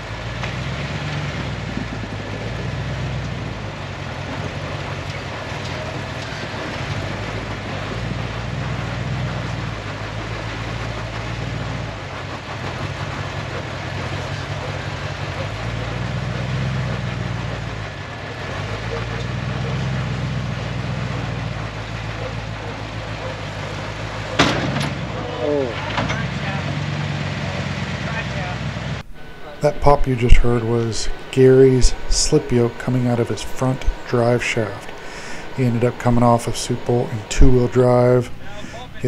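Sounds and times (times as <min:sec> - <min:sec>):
truck engine running at low revs: 0:00.0 - 0:39.0.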